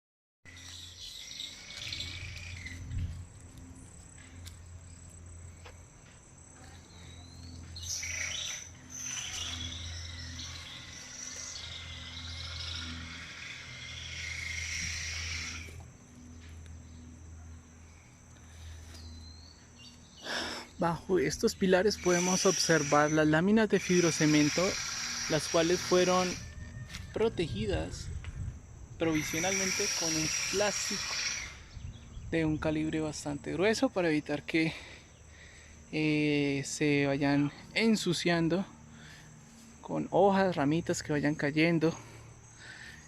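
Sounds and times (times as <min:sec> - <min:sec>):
birds calling and singing: 0:00.5 - 0:05.8, 0:06.4 - 0:17.3, 0:18.4 - 0:43.0
high-pitched insect drone: 0:00.5 - 0:43.0.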